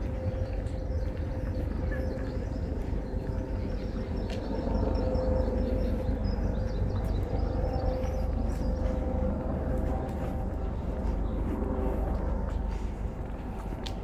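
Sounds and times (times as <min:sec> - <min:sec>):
constant hum: 0:00.0 - 0:14.0
low rumble of traffic and trains: 0:00.0 - 0:14.0
small birds chirping: 0:00.1 - 0:12.9.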